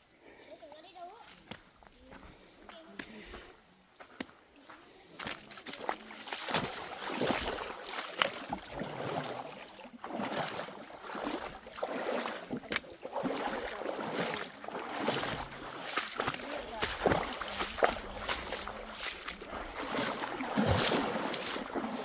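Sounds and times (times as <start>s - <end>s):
footsteps squelching through mud: 0.4s - 22.0s.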